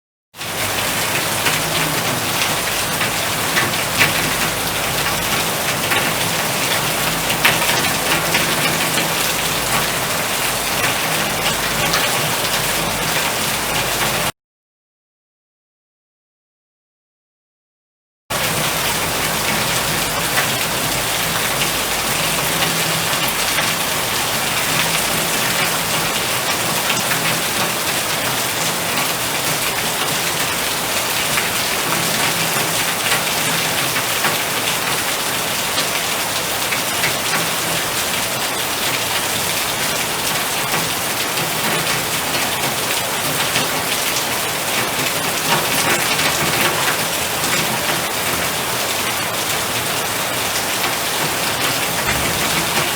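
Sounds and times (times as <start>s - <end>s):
heavy rain falling: 0.4s - 14.3s, 18.3s - 52.9s.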